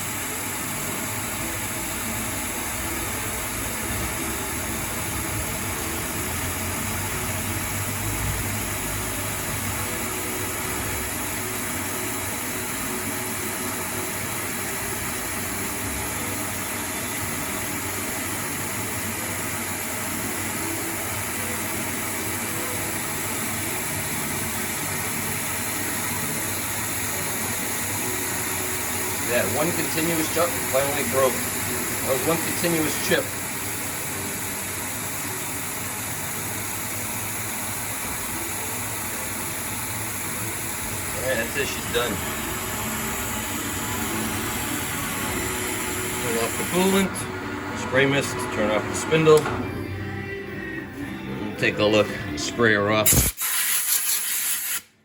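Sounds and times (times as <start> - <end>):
coolant spray hiss: 0.0 - 49.5, 53.0 - 55.0
lathe spindle running: 0.0 - 53.0.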